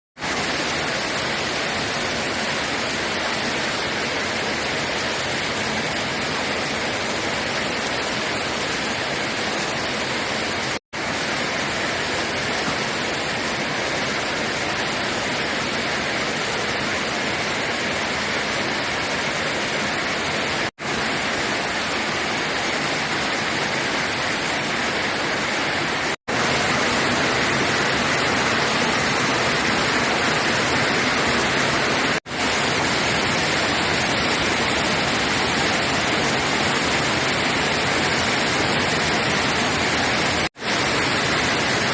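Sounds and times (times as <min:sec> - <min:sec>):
heavy rain: 0:00.2 - 0:41.9
running water: 0:00.2 - 0:41.9.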